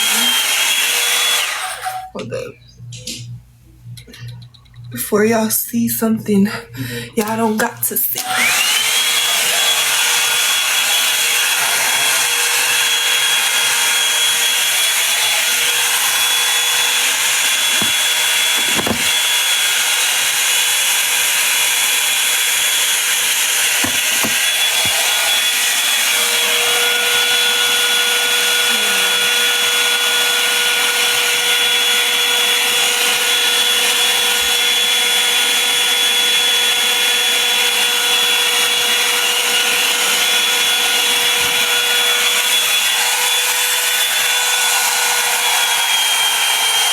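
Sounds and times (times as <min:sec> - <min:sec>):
hair dryer running: 0:00.0 - 0:02.2, 0:06.9 - 0:46.9.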